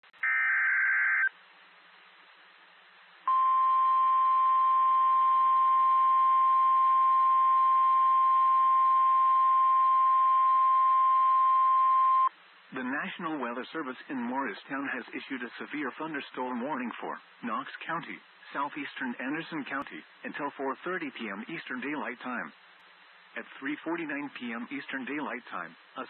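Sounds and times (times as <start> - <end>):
faint radio hiss: 0.2 - 26.0.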